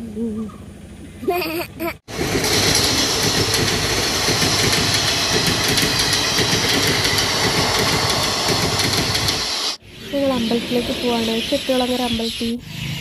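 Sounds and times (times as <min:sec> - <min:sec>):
train wheels rushing on rails: 0:02.0 - 0:13.0.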